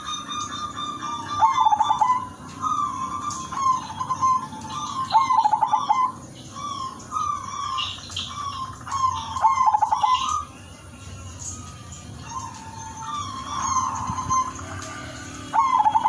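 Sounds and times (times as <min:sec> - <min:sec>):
dove cooing: 0:00.0 - 0:10.5, 0:12.1 - 0:16.0
high-pitched bird chirps: 0:00.0 - 0:16.0.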